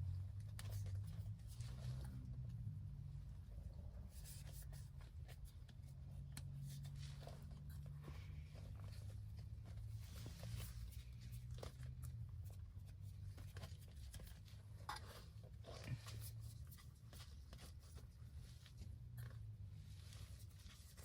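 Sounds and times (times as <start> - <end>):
hands rustling and scraping material: 0.0 - 21.0
low steady hum: 0.0 - 21.0.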